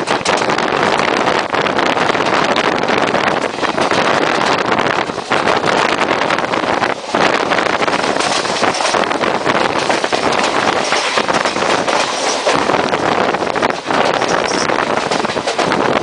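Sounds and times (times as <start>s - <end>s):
train wheels on rails: 0.0s - 16.0s
wind buffeting microphone: 0.0s - 16.0s
wind rushing past train: 0.0s - 16.0s.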